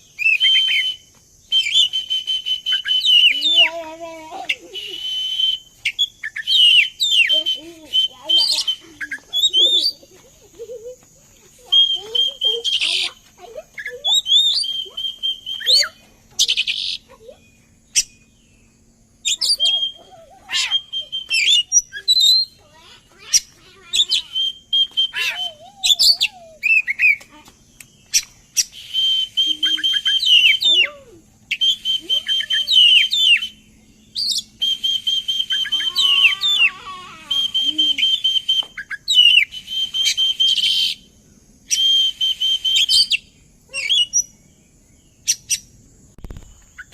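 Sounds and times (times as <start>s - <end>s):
bird singing whistles and trills: 0.0s - 10.8s, 11.5s - 46.9s.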